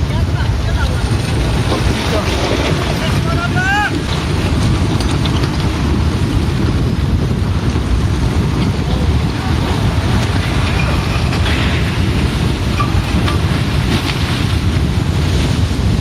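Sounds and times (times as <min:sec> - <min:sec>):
mudslide roaring: 0:00.0 - 0:16.0
wind buffeting microphone: 0:00.0 - 0:16.0.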